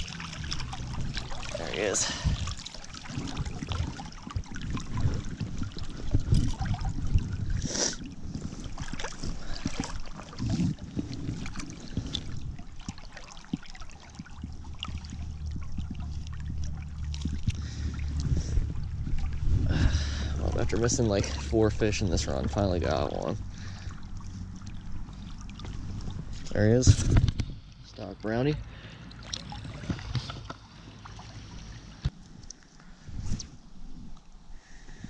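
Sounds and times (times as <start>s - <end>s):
stream water splashing: 0.0s - 32.7s
low rumble: 0.0s - 34.7s.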